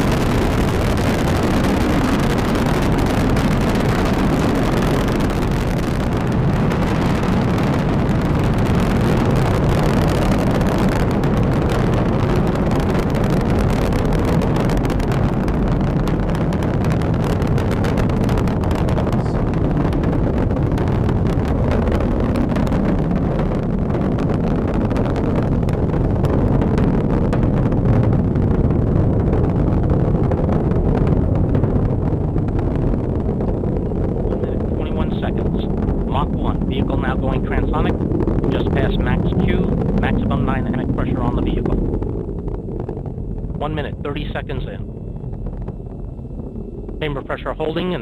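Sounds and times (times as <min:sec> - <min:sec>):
rocket engines roaring: 0:00.0 - 0:48.0.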